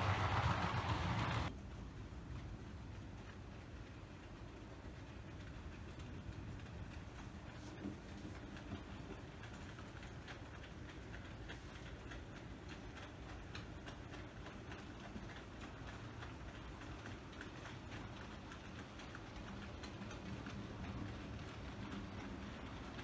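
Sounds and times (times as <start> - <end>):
low steady rumble: 0.0 - 23.0
model train clicking on track: 0.0 - 23.0.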